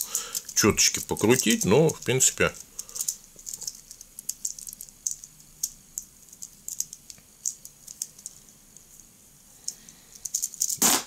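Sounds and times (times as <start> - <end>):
plastic blocks clicking: 0.0 - 8.4, 9.7 - 11.0.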